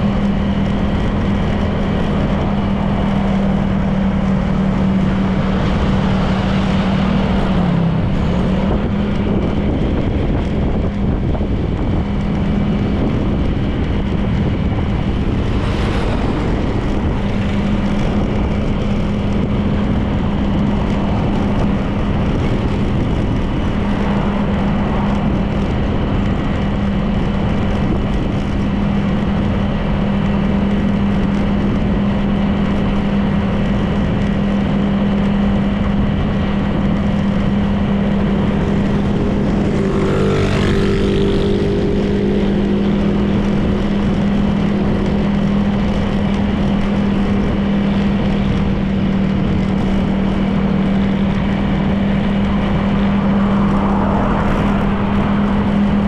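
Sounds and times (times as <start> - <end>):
road and wind noise: 0.0 - 56.0
scooter engine cruising: 0.0 - 56.0.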